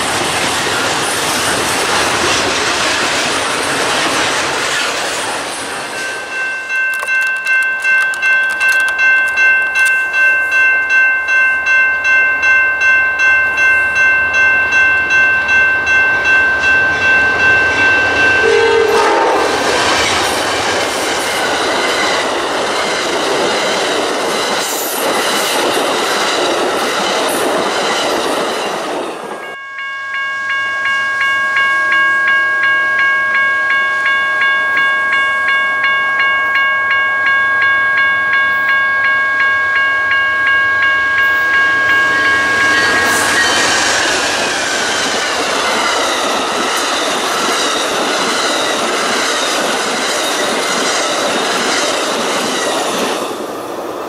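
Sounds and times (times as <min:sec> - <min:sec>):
passenger train passing: 0:00.0 - 0:54.0
crossing warning bell ringing: 0:03.2 - 0:53.5.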